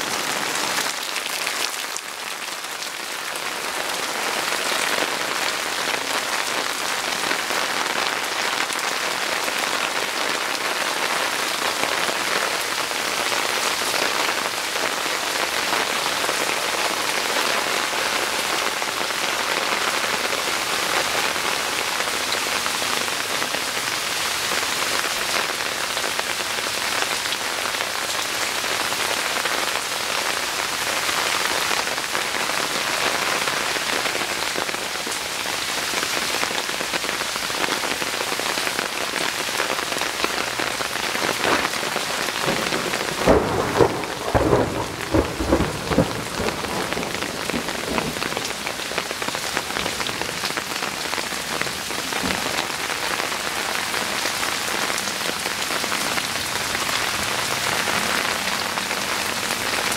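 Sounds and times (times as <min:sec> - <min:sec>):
heavy rain falling on plants: 0:00.0 - 0:59.9.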